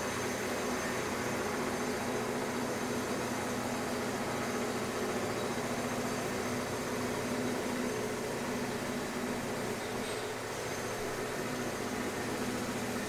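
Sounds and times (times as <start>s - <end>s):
construction machinery drone: 0.0s - 13.0s.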